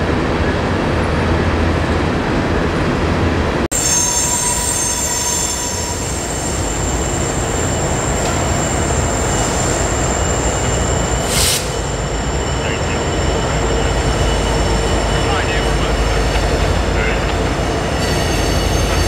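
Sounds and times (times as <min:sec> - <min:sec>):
diesel locomotives rumbling: 0:00.0 - 0:19.0.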